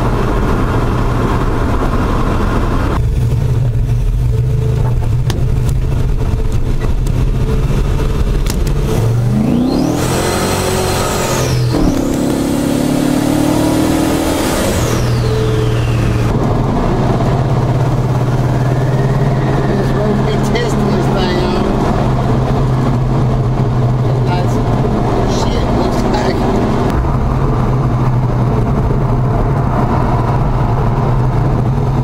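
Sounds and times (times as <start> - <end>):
engine accelerating: 0.0 - 32.0
turbo whine: 0.0 - 32.0.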